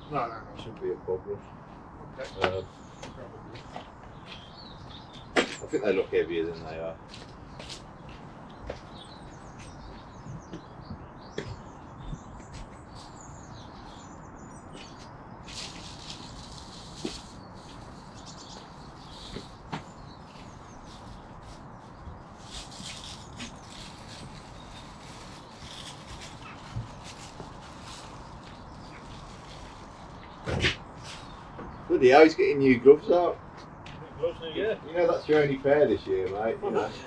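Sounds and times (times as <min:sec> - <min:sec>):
small birds chirping: 0:00.0 - 0:37.0
steady background noise: 0:00.0 - 0:37.0.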